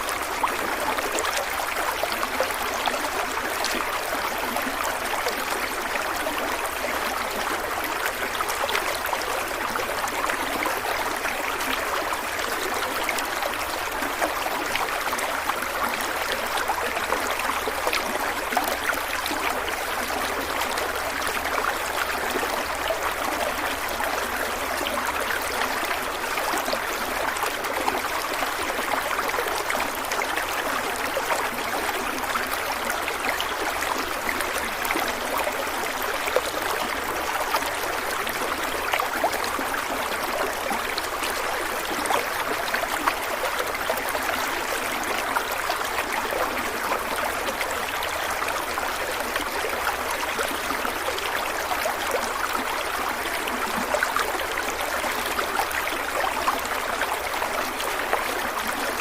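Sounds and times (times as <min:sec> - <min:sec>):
stream of water running: 0:00.0 - 0:59.0.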